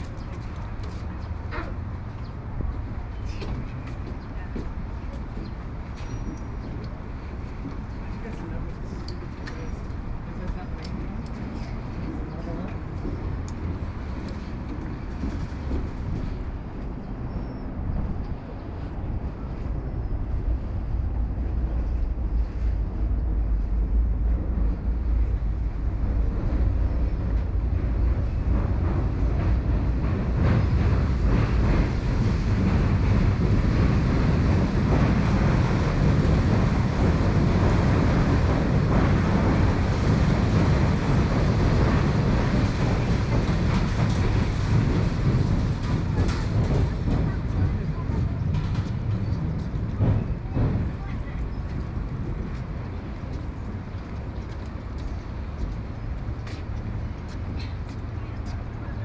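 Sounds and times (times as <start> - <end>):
train rumbling and clattering: 0.0 - 59.0.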